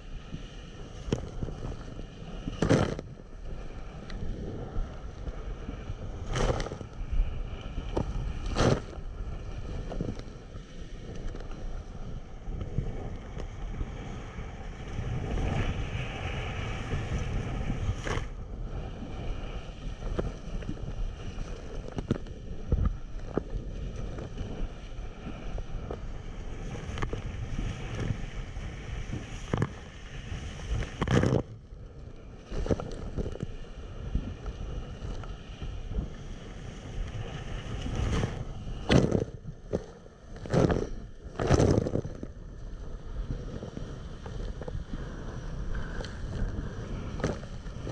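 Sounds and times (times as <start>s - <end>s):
water rushing along hulls: 0.0s - 47.9s
wind buffeting microphone: 0.0s - 47.9s.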